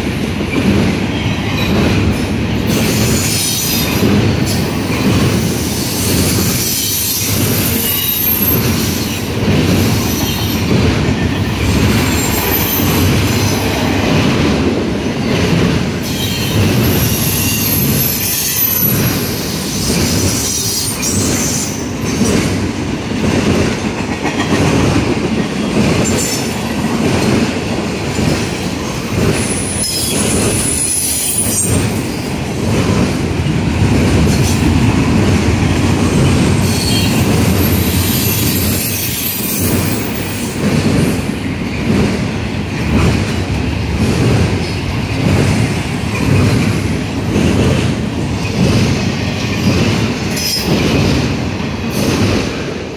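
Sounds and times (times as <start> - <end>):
rhythmic clatter over rail joints: 0.0 - 52.9
steel wheels rumbling on rail: 0.0 - 52.9.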